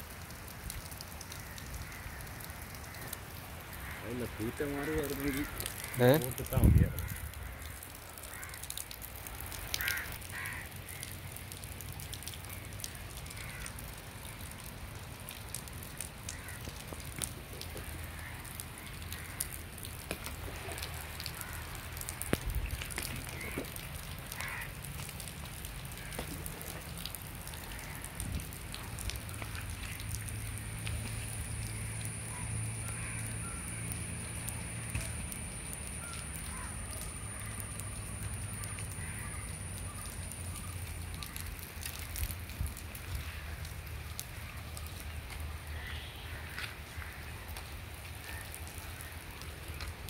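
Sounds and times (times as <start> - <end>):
light rain on water: 0.0 - 50.0.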